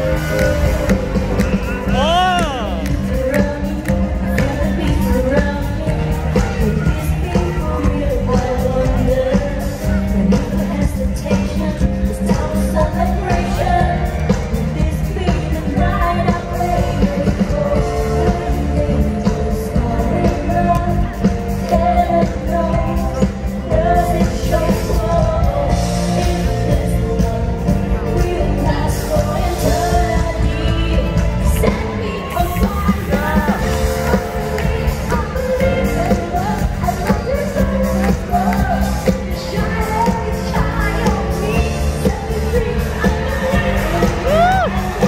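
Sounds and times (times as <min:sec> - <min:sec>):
pop-rock song with singer: 0:00.0 - 0:45.0.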